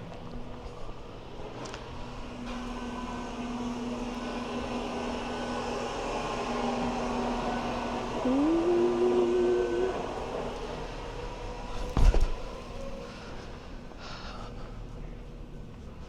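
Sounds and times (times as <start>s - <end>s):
machinery motor hum: 0.0s - 14.0s.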